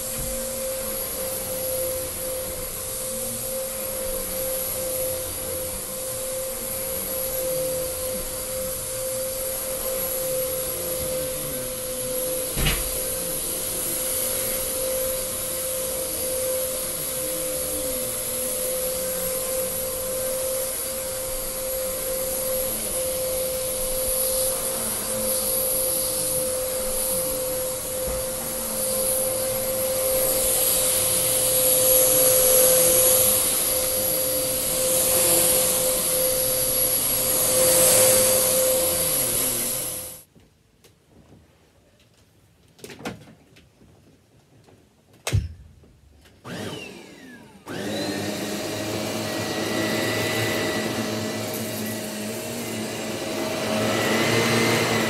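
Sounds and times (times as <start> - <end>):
vacuum cleaner running: 0.0 - 40.3, 46.4 - 55.0.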